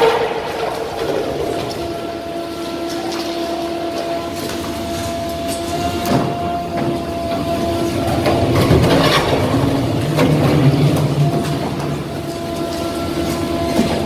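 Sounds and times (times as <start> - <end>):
excavator engine and hydraulics whine: 0.0 - 14.0.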